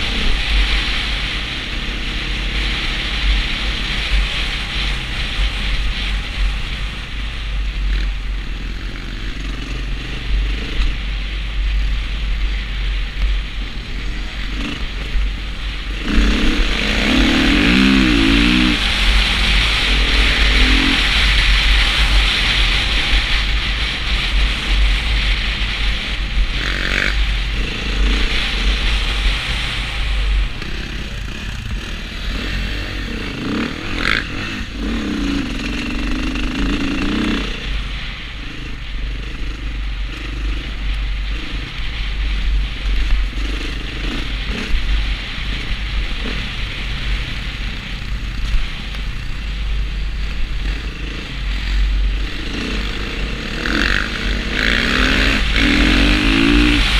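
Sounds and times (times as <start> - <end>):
dirt bike engine revving: 0.0 - 56.9
wind rumble on microphone: 0.0 - 56.9.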